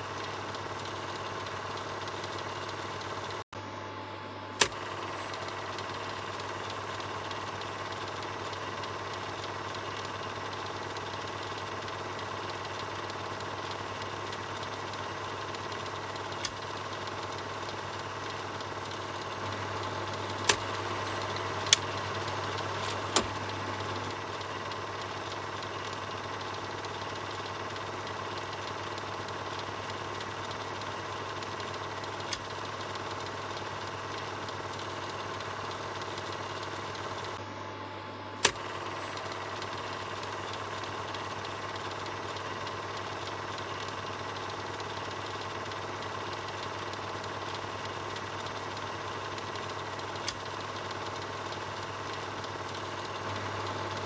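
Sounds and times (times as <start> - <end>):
film projector whirring: 0.0 - 54.0
projector clicks: 4.5 - 37.4, 38.4 - 54.0.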